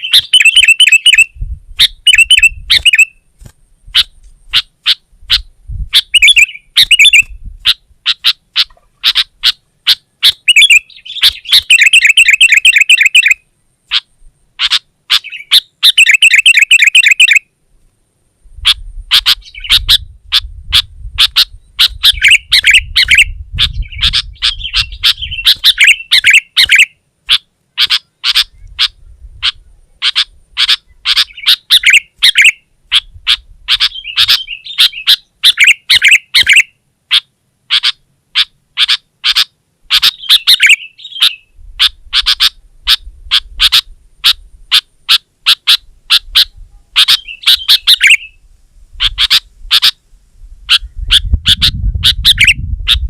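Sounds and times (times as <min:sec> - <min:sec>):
bird chirping and trilling: 0:00.0 - 0:17.5, 0:18.6 - 0:48.4, 0:49.0 - 0:50.0, 0:50.6 - 0:53.0.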